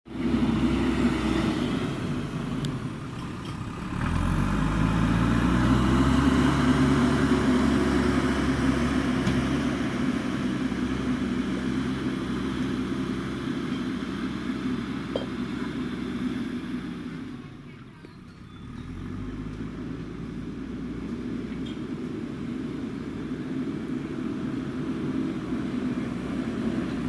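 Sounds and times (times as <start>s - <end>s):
diesel engine running: 0.1s - 27.0s.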